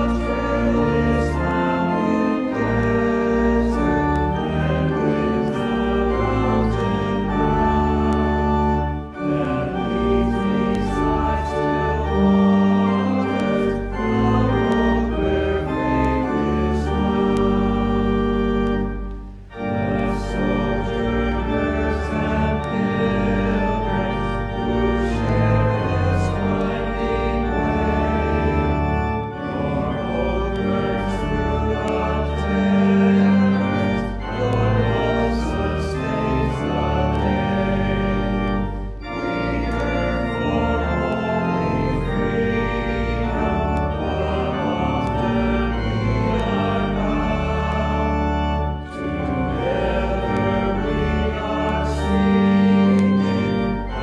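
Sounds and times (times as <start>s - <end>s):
church organ playing hymn: 0.0s - 54.0s.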